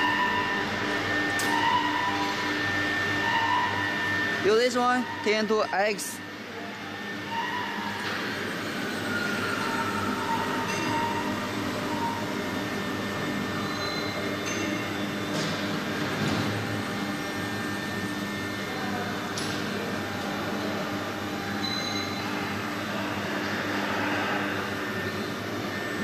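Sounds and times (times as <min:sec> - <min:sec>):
motor mechanical hum: 0:00.0 - 0:26.0.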